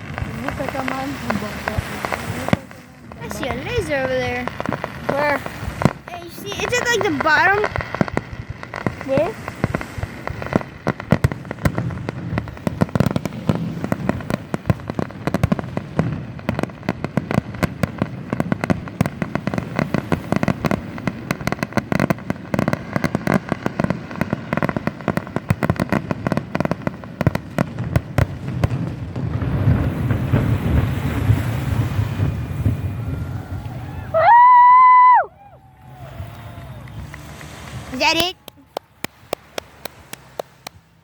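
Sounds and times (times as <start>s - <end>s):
steady rushing noise: 0.0s - 34.2s, 35.4s - 41.0s
fireworks cracking and banging: 0.0s - 41.0s.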